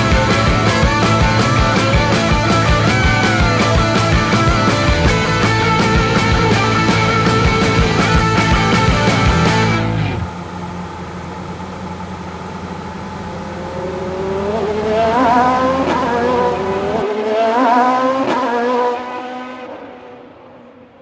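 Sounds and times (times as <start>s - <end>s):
car engine revving: 0.0s - 17.1s.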